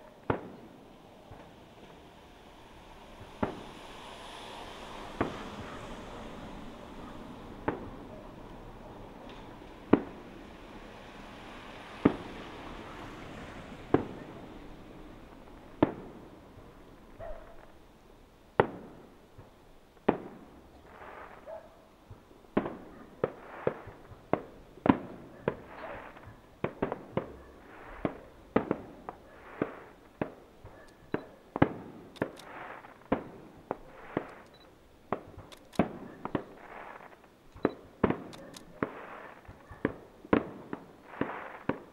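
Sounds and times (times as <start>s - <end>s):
fireworks bursting in sharp bangs: 0.0s - 17.8s, 18.6s - 41.9s.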